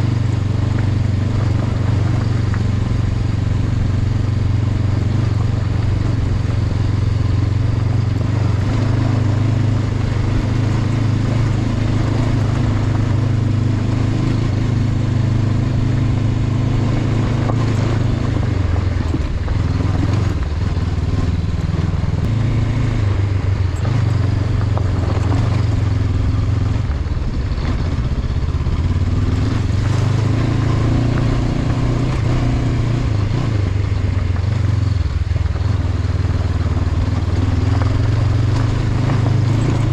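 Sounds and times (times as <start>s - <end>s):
motorcycle engine idling: 0.0s - 29.4s, 33.6s - 39.9s.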